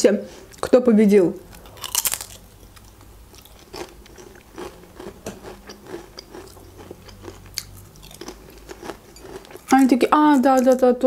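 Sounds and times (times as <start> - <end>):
potato crisps being chewed: 1.5 - 11.0.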